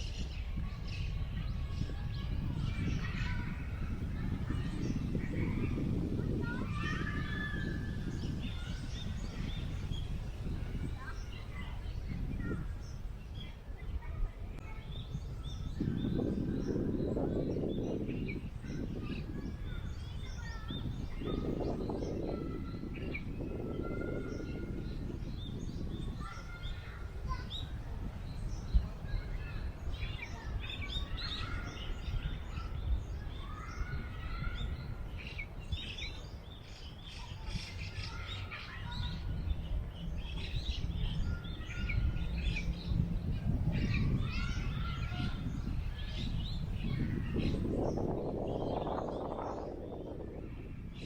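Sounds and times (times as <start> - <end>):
low rumble of wind: 0.0 - 51.0
small birds chirping and trilling: 0.0 - 51.0.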